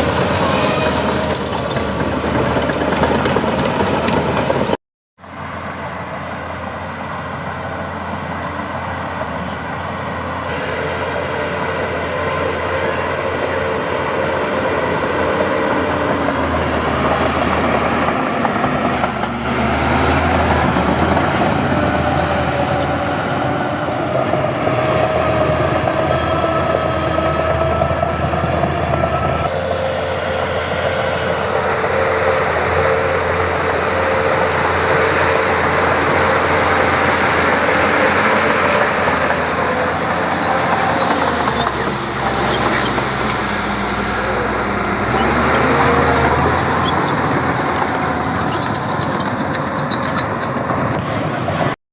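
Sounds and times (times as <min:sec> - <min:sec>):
heavy diesel machinery engines: 0:00.0 - 0:51.8.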